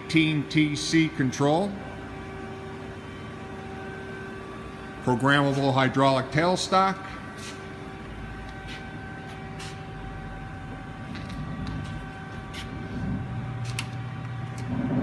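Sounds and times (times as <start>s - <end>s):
lathe humming idle: 0.0s - 15.0s.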